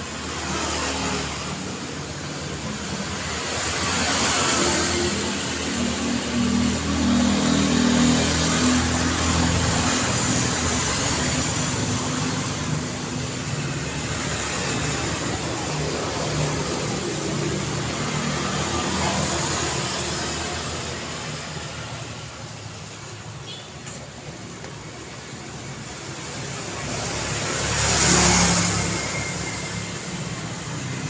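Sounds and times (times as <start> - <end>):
traffic tyre and engine noise: 0.0 - 31.0.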